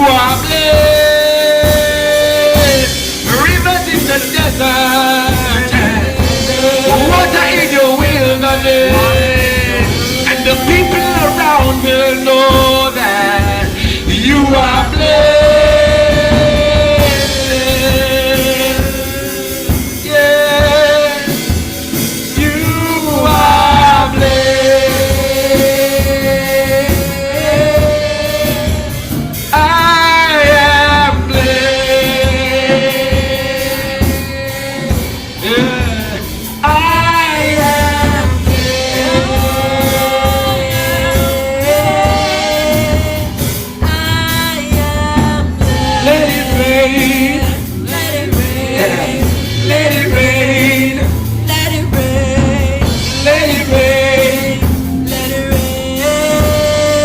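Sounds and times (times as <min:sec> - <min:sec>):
band accompaniment: 0:00.0 - 0:57.0
voices singing held notes: 0:00.0 - 0:57.0.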